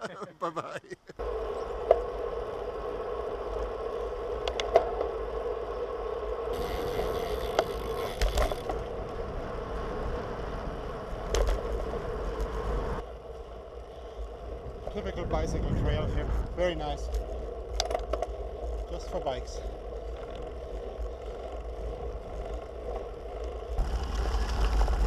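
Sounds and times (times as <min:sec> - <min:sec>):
bike tyre and wind noise: 0:01.2 - 0:25.0.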